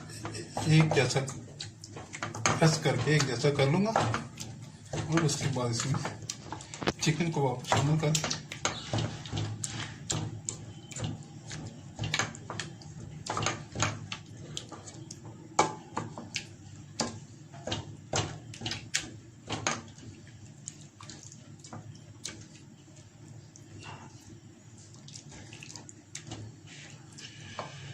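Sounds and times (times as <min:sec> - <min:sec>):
wet squelches of mashing pears: 0:00.0 - 0:27.9.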